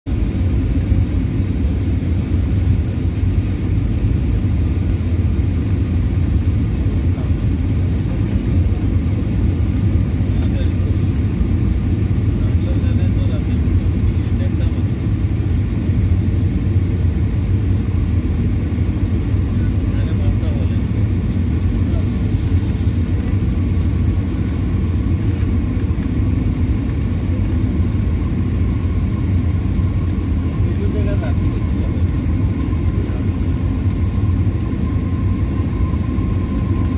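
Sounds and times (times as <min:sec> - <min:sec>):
airplane engines and airflow rumble: 0:00.0 - 0:36.9.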